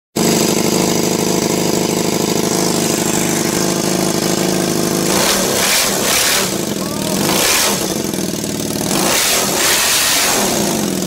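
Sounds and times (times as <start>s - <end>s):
motorcycle engine idling: 0.2s - 11.0s.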